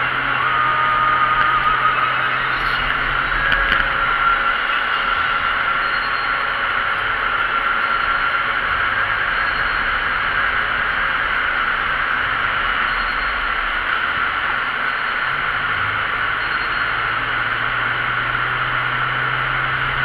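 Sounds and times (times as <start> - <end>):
high-pitched whine: 0.0 - 20.0
vehicle road noise: 0.0 - 20.0.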